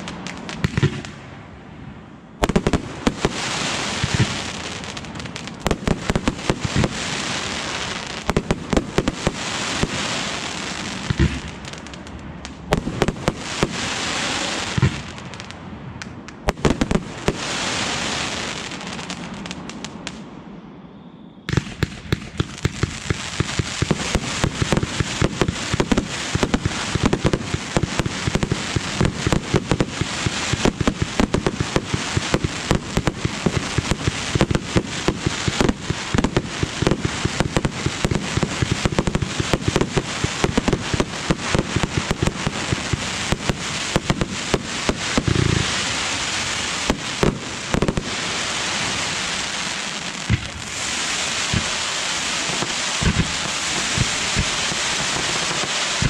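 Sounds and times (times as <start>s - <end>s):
fireworks bangs and pops: 0.0s - 1.2s, 2.4s - 20.3s, 21.5s - 56.0s.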